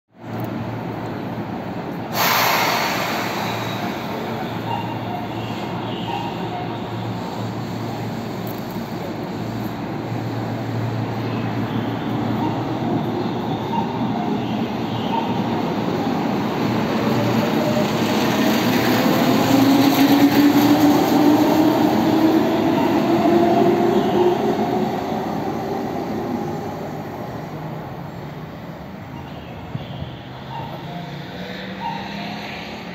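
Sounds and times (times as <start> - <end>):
train wheels rumbling: 2.0 - 28.7.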